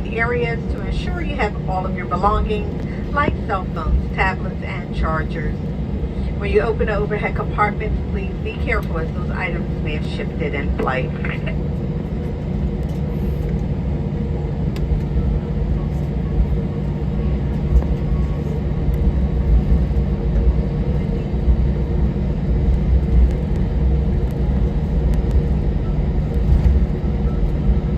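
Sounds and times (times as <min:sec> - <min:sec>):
aircraft cabin rumble: 0:00.0 - 0:27.9
idling jet engines hum: 0:00.0 - 0:27.9.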